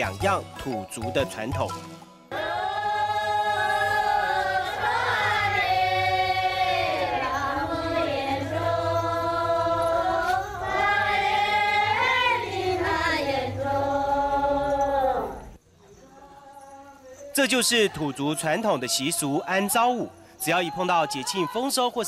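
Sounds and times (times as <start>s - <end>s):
group singing together: 2.3s - 20.0s.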